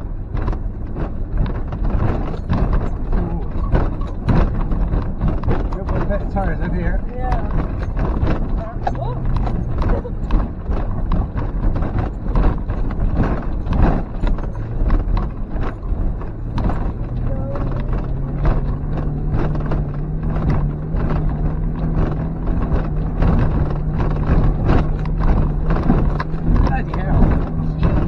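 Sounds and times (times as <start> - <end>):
car engine running: 0.0 - 28.0
rattling and knocking of car: 0.0 - 28.0.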